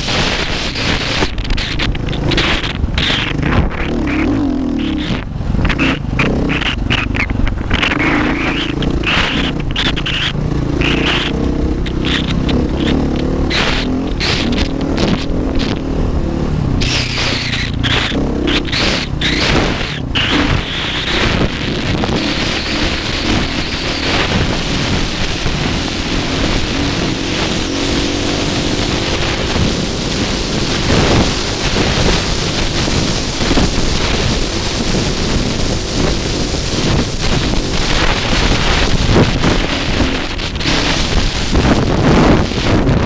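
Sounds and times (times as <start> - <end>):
dirt bike engine running: 0.0 - 43.0
wind noise on microphone: 0.0 - 43.0.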